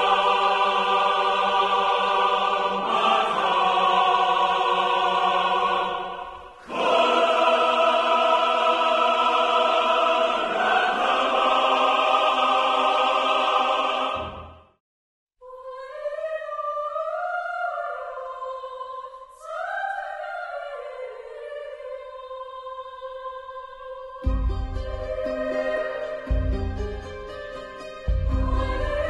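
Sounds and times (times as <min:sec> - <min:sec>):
choir singing held chords: 0:00.0 - 0:14.8, 0:15.4 - 0:29.0.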